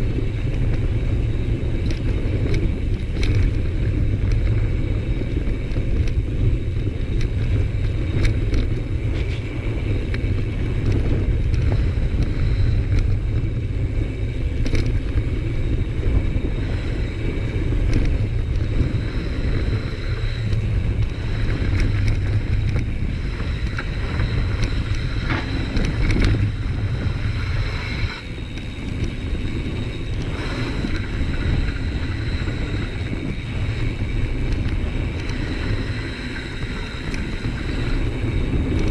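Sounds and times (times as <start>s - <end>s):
bike clicks and knocks: 0.0s - 38.9s
wind buffeting microphone: 0.0s - 38.9s.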